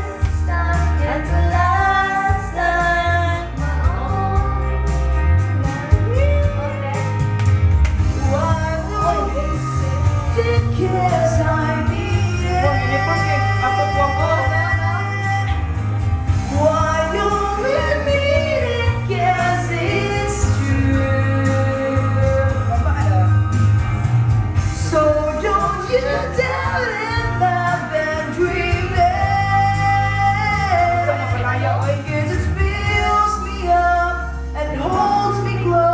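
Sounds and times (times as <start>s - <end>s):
person singing: 0.0s - 7.4s, 8.2s - 15.8s, 16.4s - 23.5s, 24.8s - 35.9s
backing music with heavy bass beat: 0.0s - 35.9s.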